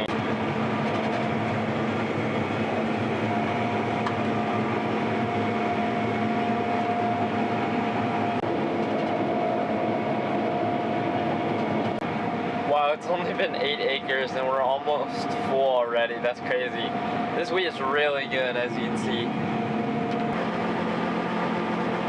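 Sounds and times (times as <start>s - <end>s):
combine harvester drone: 0.0s - 22.0s
constant mechanical whine: 0.0s - 22.0s.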